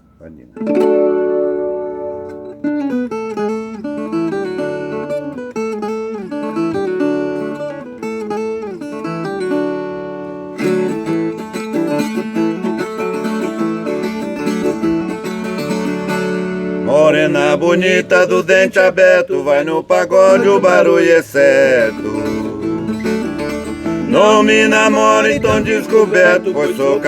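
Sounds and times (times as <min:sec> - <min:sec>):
folk guitar playing: 0:00.0 - 0:27.0.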